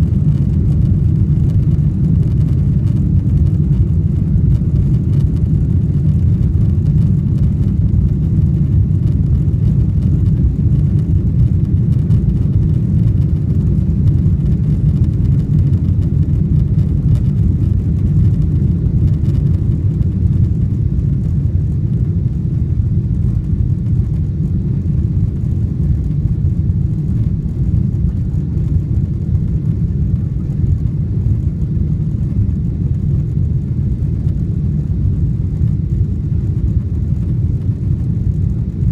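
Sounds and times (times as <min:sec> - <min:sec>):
airliner engines rumbling: 0:00.0 - 0:38.9.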